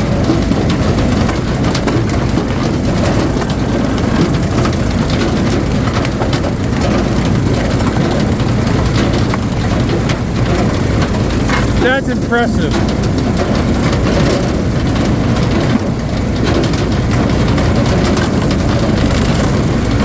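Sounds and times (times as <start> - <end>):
wood splitter engine running: 0.0 - 20.0.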